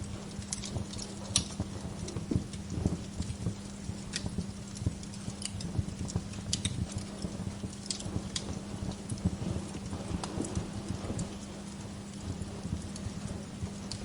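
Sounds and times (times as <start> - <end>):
steady low hum: 0.0 - 14.0
wood fire crackling and popping: 0.0 - 14.0.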